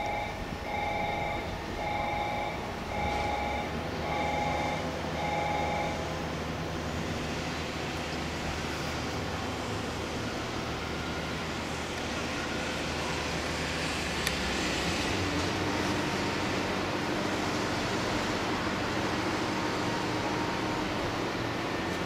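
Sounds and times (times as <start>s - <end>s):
train equipment hum and hiss: 0.0s - 22.0s.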